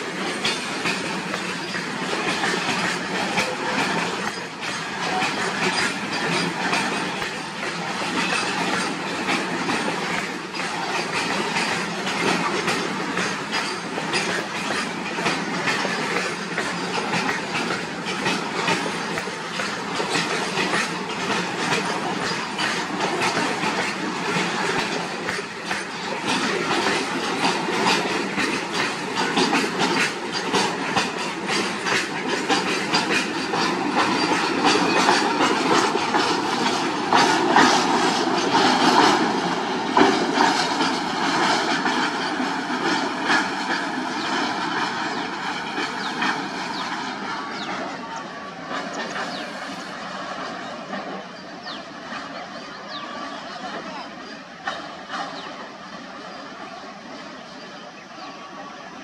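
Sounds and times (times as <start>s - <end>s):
freight train rolling past: 0.0s - 59.0s
wheels clacking over rail joints: 0.0s - 59.0s.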